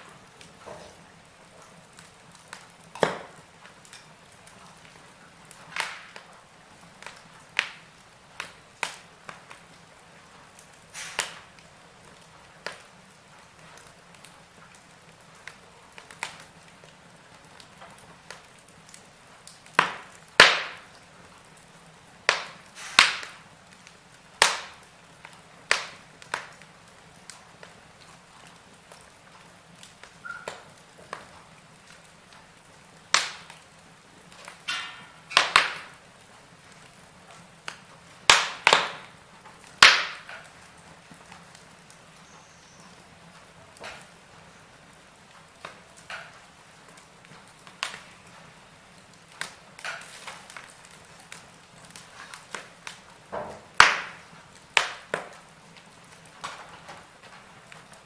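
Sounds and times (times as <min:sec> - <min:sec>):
fire pops and snaps: 0:00.0 - 0:58.0
wood fire crackling: 0:00.0 - 0:58.0.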